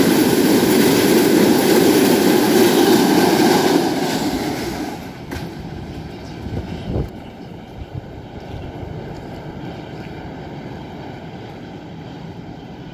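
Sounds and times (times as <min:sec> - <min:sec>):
train wheels rumbling on bridge: 0:00.0 - 0:12.9.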